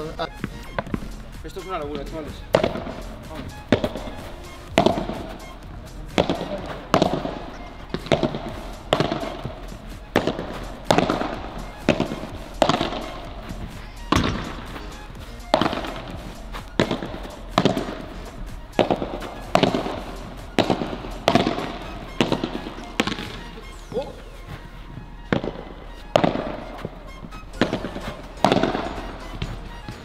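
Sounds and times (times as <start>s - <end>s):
rackets hitting ball with echo: 0.0s - 30.0s.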